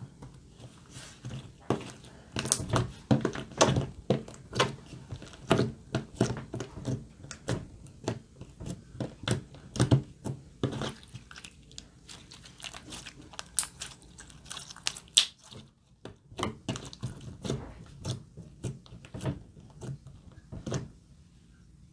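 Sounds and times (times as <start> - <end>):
slime squishing by hand: 0.0 - 21.0.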